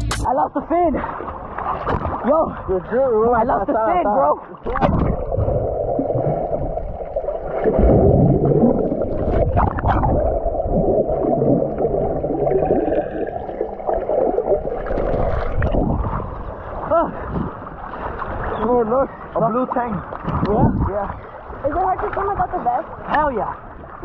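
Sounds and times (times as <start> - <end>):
muffled underwater rush and gurgle: 0.7 - 24.0.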